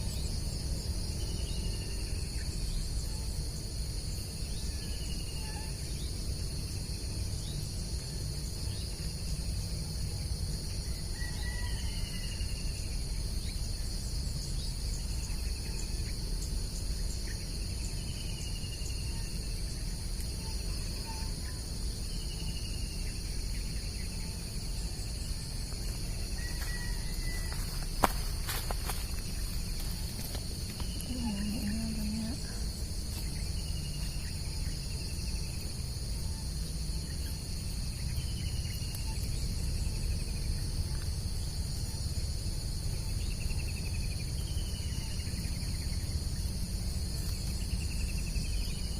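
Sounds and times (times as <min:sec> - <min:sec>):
crickets and insects chirring: 0:00.0 - 0:48.9.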